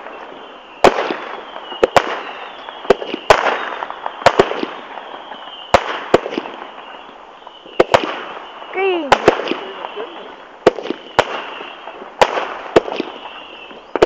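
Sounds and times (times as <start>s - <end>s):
fireworks bangs: 0.0s - 14.0s
fireworks crackling: 0.0s - 14.0s
faint high whistle: 0.1s - 4.2s, 4.9s - 5.7s, 6.6s - 12.0s, 13.0s - 14.0s.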